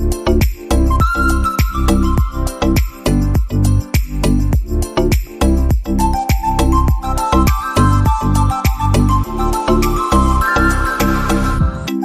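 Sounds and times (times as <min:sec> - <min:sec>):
music with steady beat and bass: 0:00.0 - 0:12.0.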